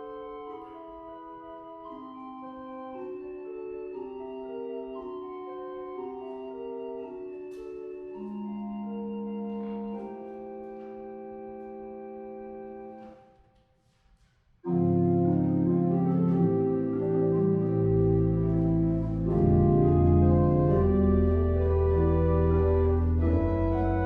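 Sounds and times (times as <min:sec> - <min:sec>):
organ playing chords: 0:00.0 - 0:13.1, 0:14.6 - 0:24.0.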